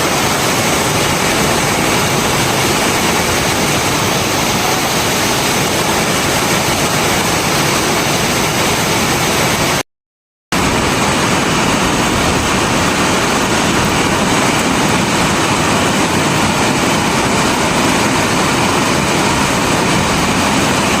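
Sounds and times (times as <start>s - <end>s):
heavy rainfall: 0.0s - 9.8s, 10.5s - 21.0s.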